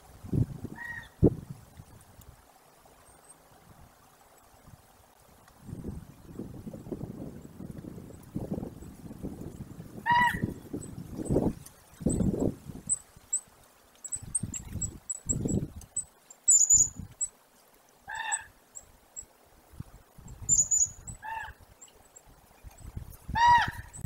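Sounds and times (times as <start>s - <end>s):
small birds chirping: 2.7s - 19.3s, 20.2s - 24.0s.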